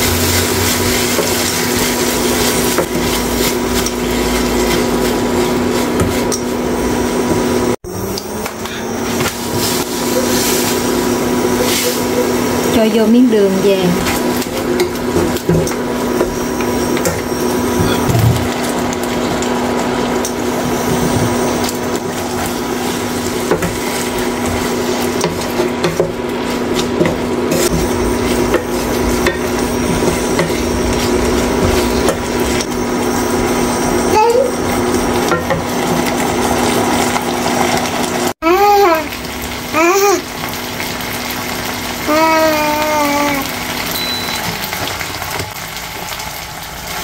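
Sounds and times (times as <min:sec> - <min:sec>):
meat sizzling in frying pan: 0:00.0 - 0:07.8, 0:08.8 - 0:47.0.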